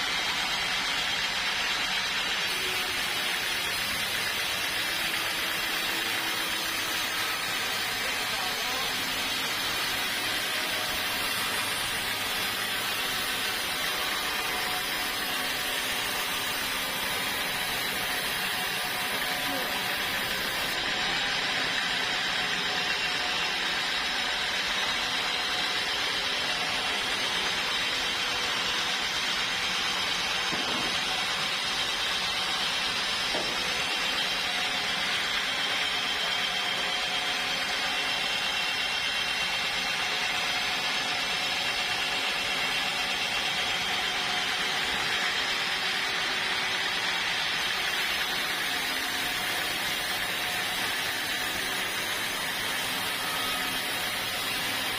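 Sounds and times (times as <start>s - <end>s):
sawmill saw machinery running: 0.0s - 54.9s.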